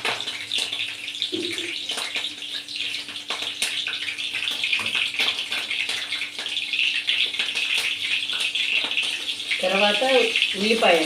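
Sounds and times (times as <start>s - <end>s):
chillies sizzling in hot oil: 0.0s - 11.0s.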